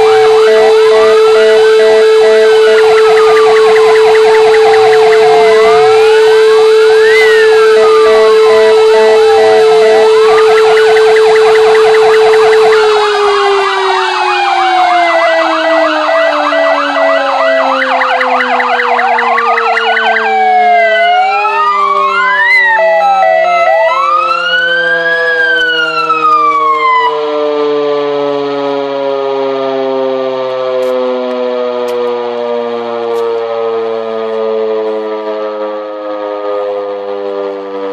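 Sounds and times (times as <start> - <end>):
fire engine sirens wailing: 0.0 - 37.9
motor-driven warning siren: 0.0 - 37.9.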